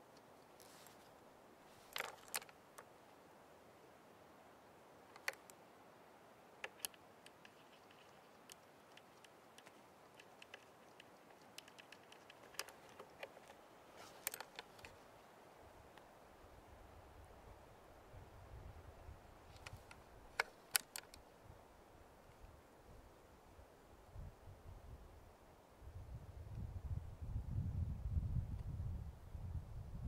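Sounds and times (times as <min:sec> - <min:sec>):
low steady hiss: 0:00.0 - 0:30.0.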